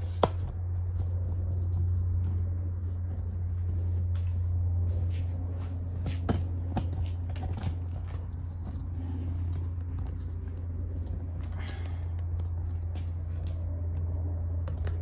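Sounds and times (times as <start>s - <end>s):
footsteps on concrete floor: 0.0s - 14.1s
steady low hum: 0.0s - 15.0s.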